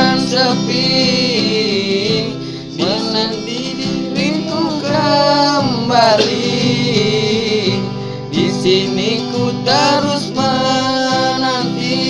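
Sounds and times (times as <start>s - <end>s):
acoustic guitar strumming: 0.0s - 12.0s
boy singing: 0.0s - 12.0s.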